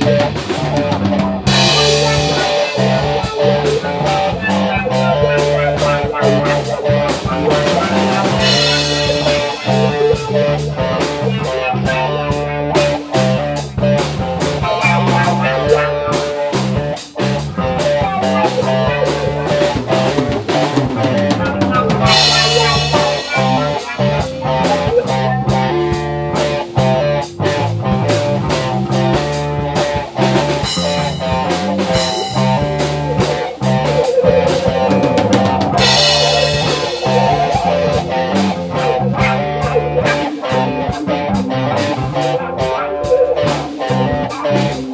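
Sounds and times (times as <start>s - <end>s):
bass guitar low notes: 0.0s - 44.9s
drum kit busy beat: 0.0s - 44.9s
electric guitars: 0.0s - 44.9s.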